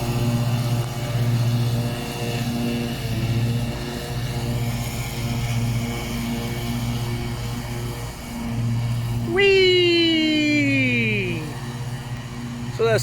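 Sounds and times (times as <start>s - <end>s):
lawn tractor engine mowing: 0.0s - 13.0s.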